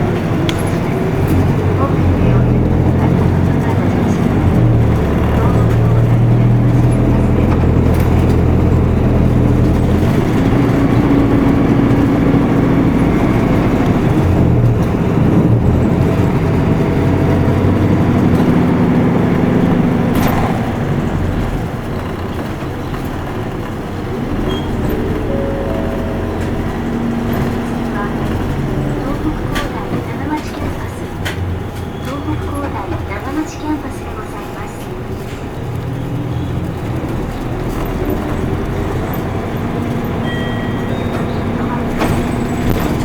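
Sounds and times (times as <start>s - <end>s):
bus diesel engine: 0.0s - 43.0s.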